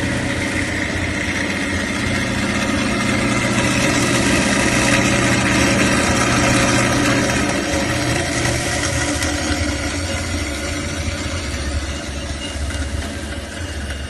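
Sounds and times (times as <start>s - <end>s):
band saw motor hum: 0.0s - 13.5s.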